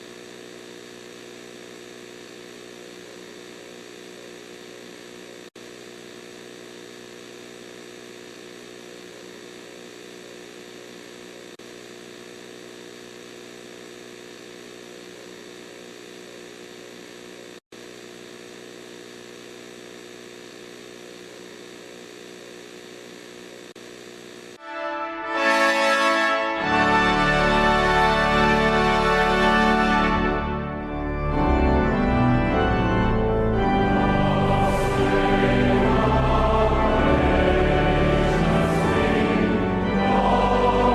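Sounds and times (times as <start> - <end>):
electronic droning hum: 0.0 - 24.6, 26.5 - 40.9.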